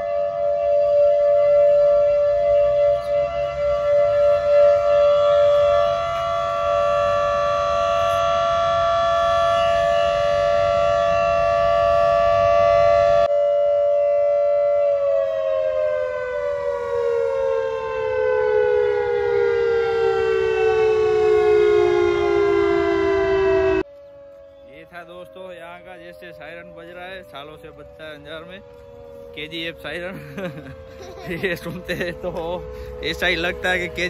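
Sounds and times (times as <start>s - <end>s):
siren wailing: 0.0s - 34.0s.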